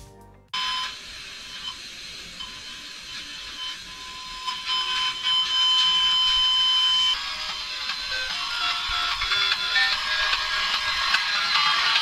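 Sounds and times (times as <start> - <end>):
high-pitched electronic whine: 0.6 - 12.0.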